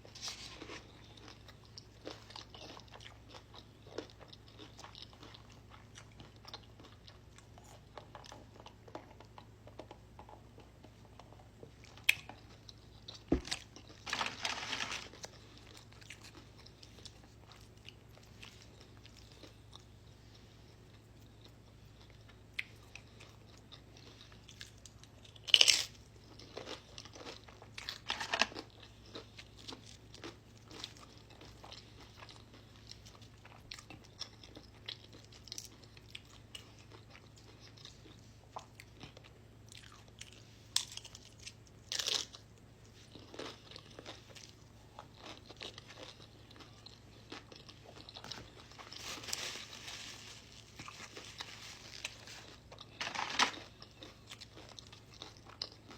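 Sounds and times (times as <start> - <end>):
crunching bites of chips: 0.0 - 20.0, 21.0 - 55.9
chewing: 0.1 - 55.9.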